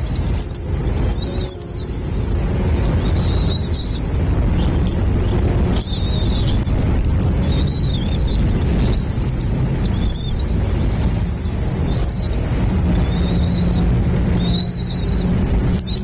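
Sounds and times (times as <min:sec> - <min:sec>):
bird whistling calls: 0:00.0 - 0:06.7, 0:07.4 - 0:16.0
steady low rumble: 0:00.0 - 0:16.0.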